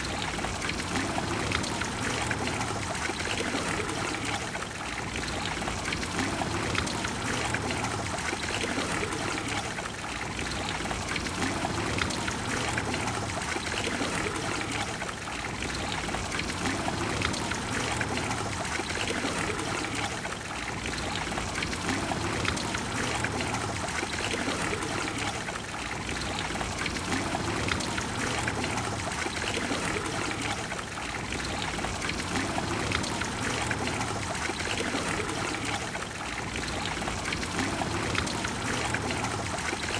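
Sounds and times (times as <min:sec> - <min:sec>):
fountain water rushing: 0:00.0 - 0:39.9.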